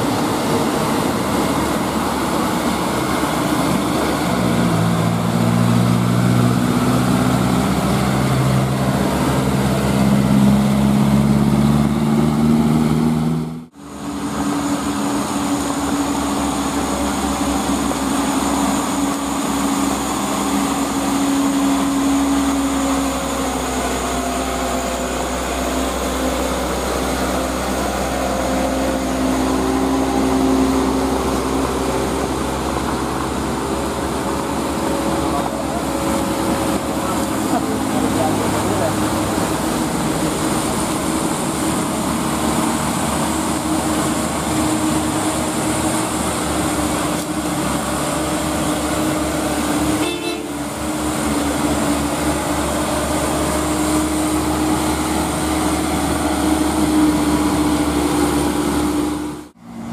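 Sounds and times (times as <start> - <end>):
truck diesel engine climbing: 0.0 - 59.9.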